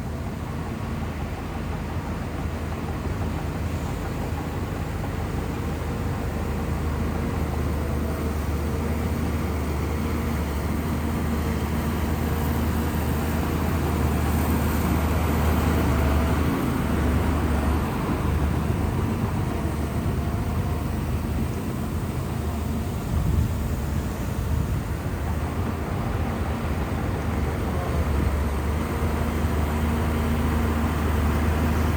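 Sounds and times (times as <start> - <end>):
bulldozer diesel engine droning: 0.0 - 31.9.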